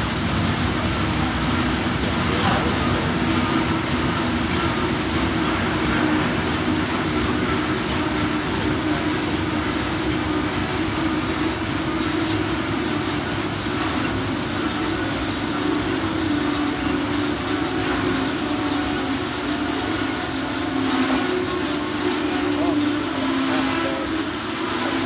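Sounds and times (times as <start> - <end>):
low hum: 0.0 - 25.0
train wheels rolling on track: 0.0 - 25.0.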